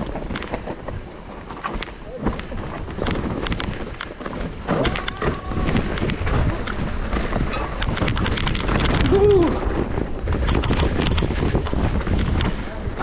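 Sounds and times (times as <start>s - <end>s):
bike clicks and rattles: 0.0s - 13.0s
bike tyres on dirt and roots: 0.0s - 13.0s
wind rushing over microphone: 0.0s - 13.0s.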